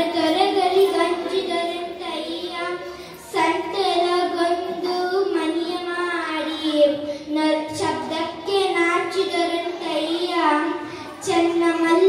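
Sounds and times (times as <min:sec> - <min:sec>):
girl singing into a microphone: 0:00.0 - 0:12.0.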